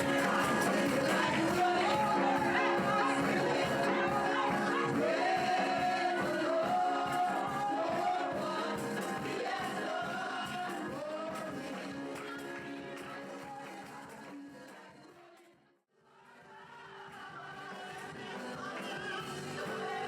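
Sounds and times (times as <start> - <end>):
worship music with singing: 0.0 - 20.0.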